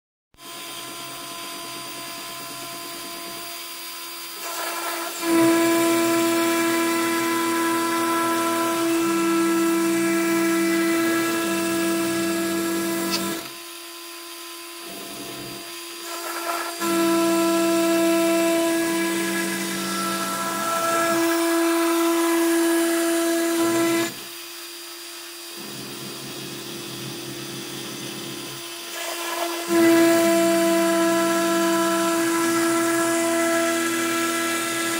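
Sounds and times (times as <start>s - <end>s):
router motors whining: 0.4s - 34.9s.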